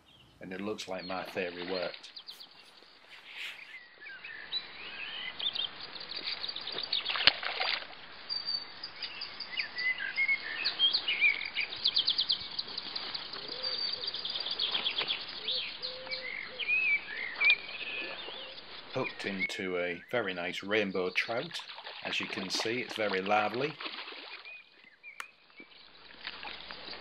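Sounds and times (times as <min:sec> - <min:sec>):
songbirds singing and trilling: 0:00.0 - 0:27.0.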